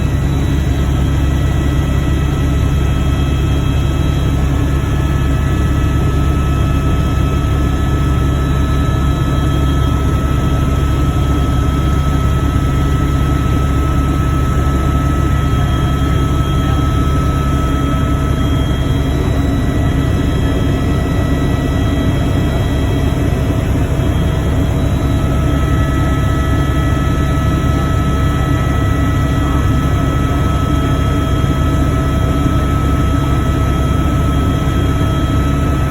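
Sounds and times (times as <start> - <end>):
helicopter drone: 0.0 - 35.9
high whine: 0.0 - 35.9.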